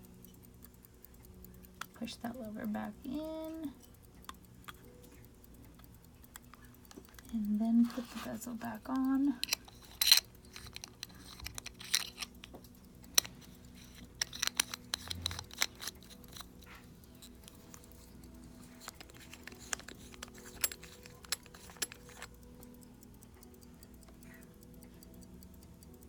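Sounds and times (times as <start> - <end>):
small metallic clicks and scrapes: 0.0 - 26.0.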